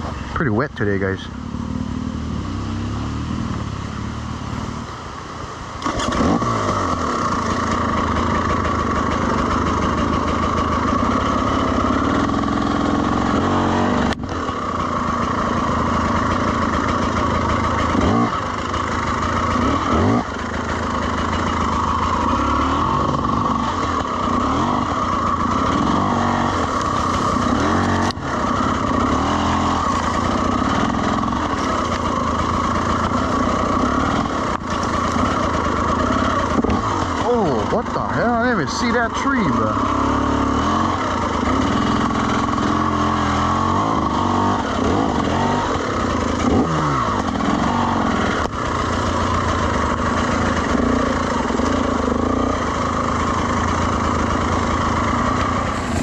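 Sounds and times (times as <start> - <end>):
dirt bike engine revving: 0.0 - 4.8, 5.8 - 56.0.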